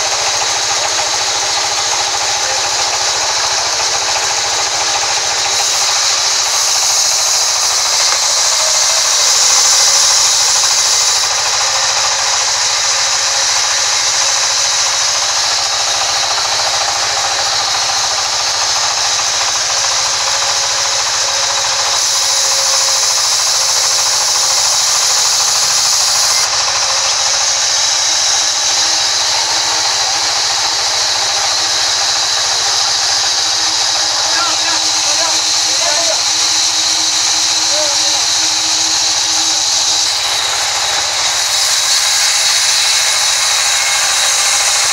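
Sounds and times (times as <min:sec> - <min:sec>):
band saw blade hissing through wood: 0:00.0 - 0:44.9
machine hum: 0:00.0 - 0:44.9.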